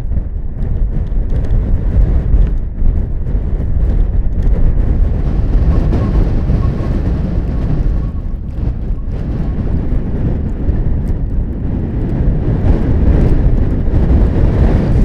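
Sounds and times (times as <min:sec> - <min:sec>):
gusting wind buffeting microphone: 0:00.0 - 0:15.0.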